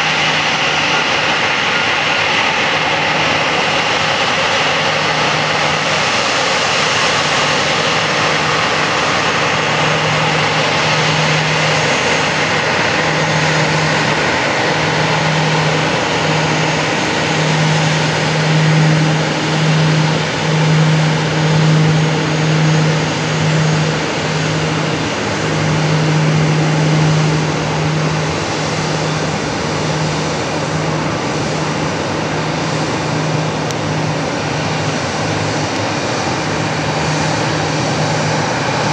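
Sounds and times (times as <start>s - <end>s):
jet engines running: 0.0s - 38.9s
low throbbing hum: 0.0s - 38.9s.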